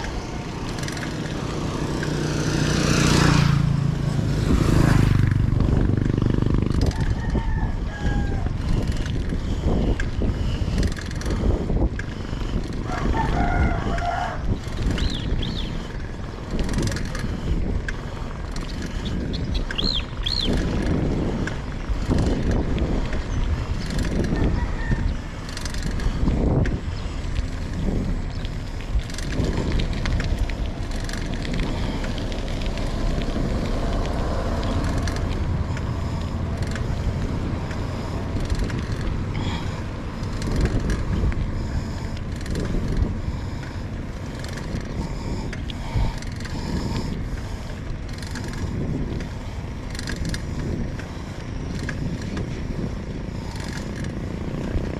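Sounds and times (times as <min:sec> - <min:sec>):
vehicle rumble: 0:00.0 - 0:54.9
wind buffeting the microphone: 0:00.0 - 0:54.9.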